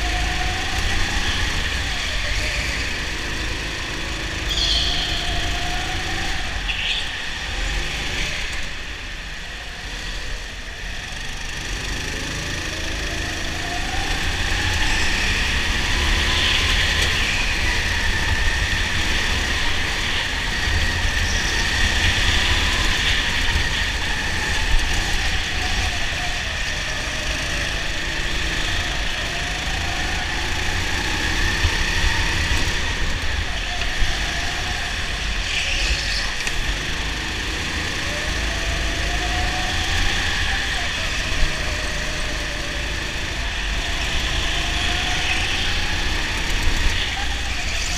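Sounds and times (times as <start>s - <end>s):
go-kart engine revving: 0.0s - 47.9s.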